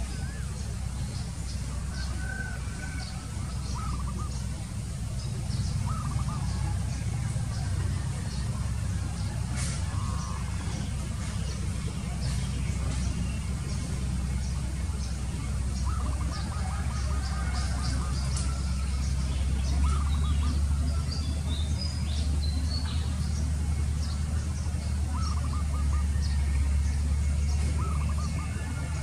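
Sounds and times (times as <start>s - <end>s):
birds calling: 0.0s - 29.0s
steady low rumble: 0.0s - 29.0s.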